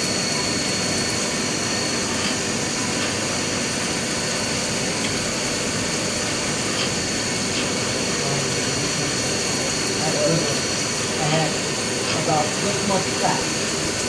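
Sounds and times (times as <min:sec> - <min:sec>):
high spindle whine: 0:00.0 - 0:14.0
milling machine cutting metal: 0:00.0 - 0:14.0.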